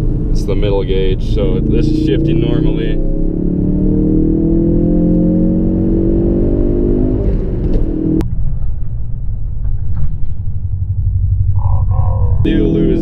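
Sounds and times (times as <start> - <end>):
car engine pulling hard: 0.0 - 13.0
low road rumble: 0.0 - 13.0.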